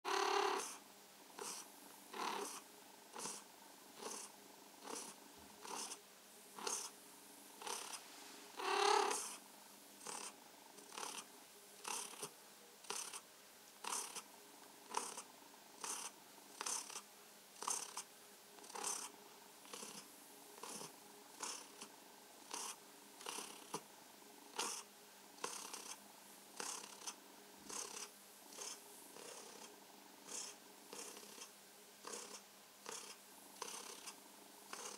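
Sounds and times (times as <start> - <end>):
cat purring: 0.1 - 6.0, 6.6 - 7.0, 7.6 - 9.4, 10.0 - 13.2, 13.8 - 23.9, 24.5 - 26.0, 26.6 - 34.9.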